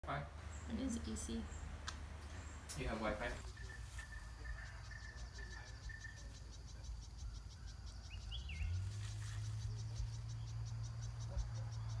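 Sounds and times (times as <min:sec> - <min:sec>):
insects chirping: 0:00.1 - 0:12.0.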